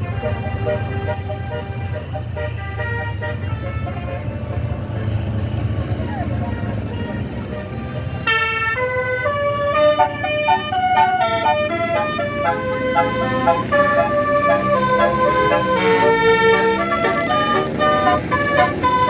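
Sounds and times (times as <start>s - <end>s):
low engine rumble: 0.0s - 19.0s
multi-tone bus horn tune: 0.0s - 19.0s.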